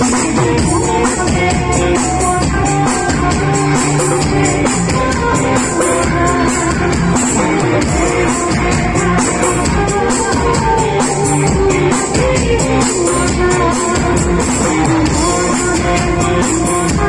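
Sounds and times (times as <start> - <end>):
loud music with steady beat: 0.0 - 17.0.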